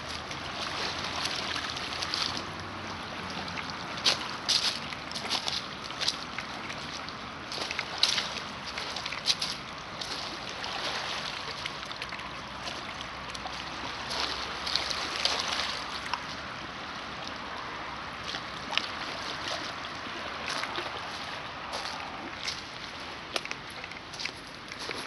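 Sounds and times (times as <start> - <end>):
sharp water splashes: 0.0 - 25.0
small waves lapping on rocks: 0.0 - 25.0.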